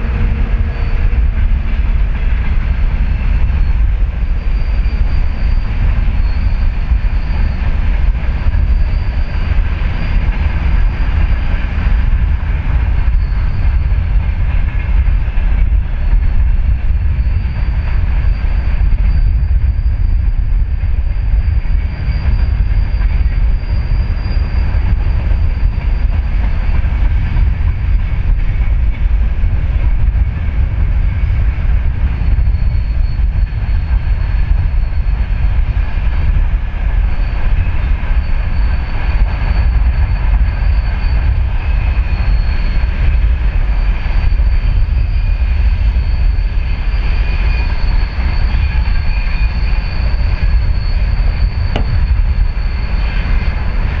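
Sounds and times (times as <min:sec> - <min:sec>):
freight train wagons rumbling: 0:00.0 - 0:54.0
thin high whine: 0:00.0 - 0:54.0.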